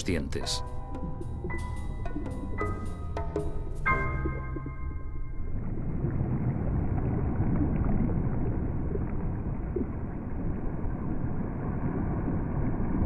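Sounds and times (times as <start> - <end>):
underwater water noise: 0.4 - 13.0.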